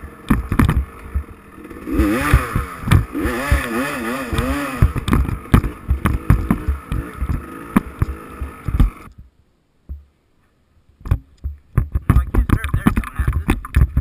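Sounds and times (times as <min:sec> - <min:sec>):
dirt bike engine: 0:00.0 - 0:09.3, 0:11.0 - 0:14.0
knocks and thumps: 0:00.3 - 0:01.4, 0:02.2 - 0:09.3, 0:09.9 - 0:10.1, 0:11.0 - 0:14.0.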